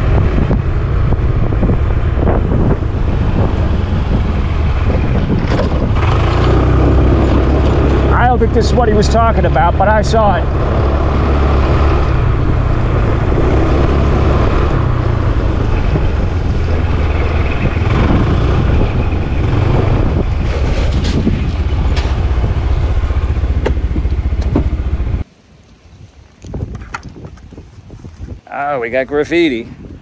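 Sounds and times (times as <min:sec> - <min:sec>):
scooter engine droning: 0:00.0 - 0:25.2
wind rushing over microphone: 0:00.0 - 0:30.0.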